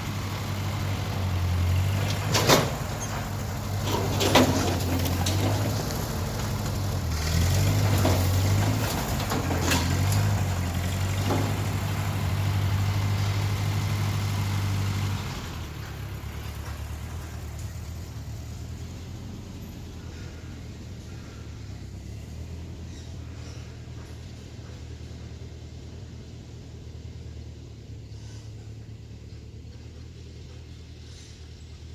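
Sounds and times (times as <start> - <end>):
machinery engine running under load: 0.0 - 31.9.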